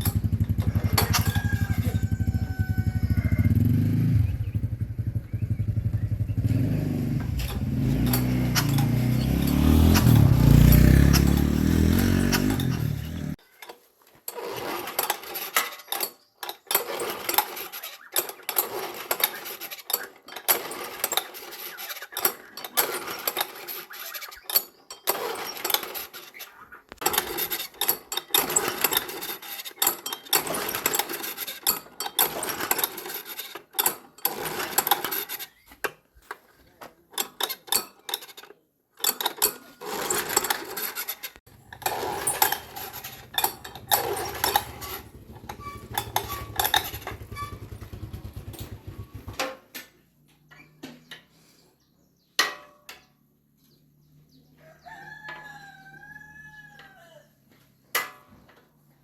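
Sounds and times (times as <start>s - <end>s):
hand tools and metal parts clinking: 0.0s - 3.5s, 6.5s - 54.1s, 54.7s - 59.0s.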